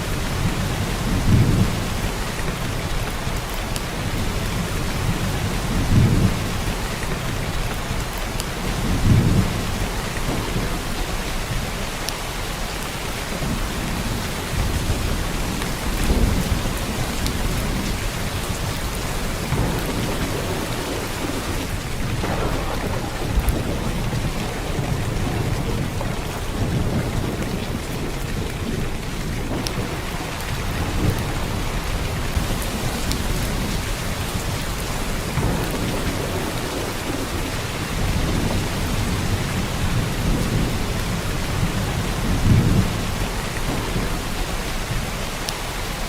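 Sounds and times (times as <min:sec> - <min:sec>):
heavy rain hiss: 0:00.0 - 0:46.0.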